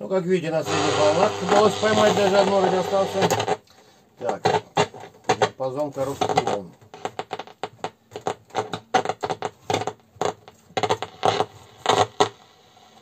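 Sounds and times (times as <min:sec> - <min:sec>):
radio crackling and clicking: 0:00.6 - 0:13.0.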